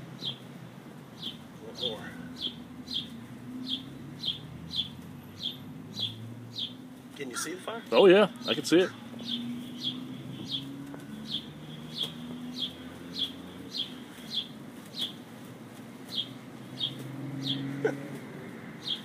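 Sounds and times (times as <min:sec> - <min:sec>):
bird chirping: 0:00.2 - 0:00.5, 0:01.1 - 0:15.3, 0:16.0 - 0:17.9, 0:18.8 - 0:19.0.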